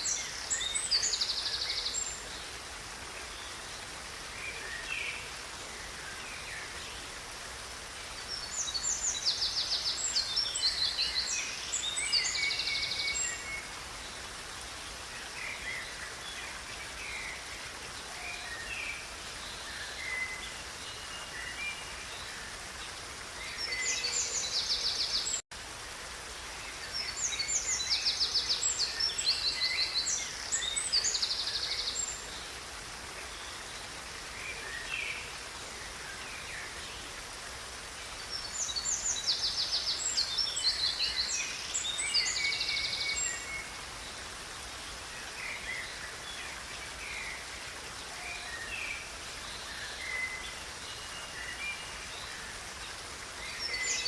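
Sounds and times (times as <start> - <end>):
river rushing: 0.0 - 54.0
songbirds singing: 0.0 - 54.0.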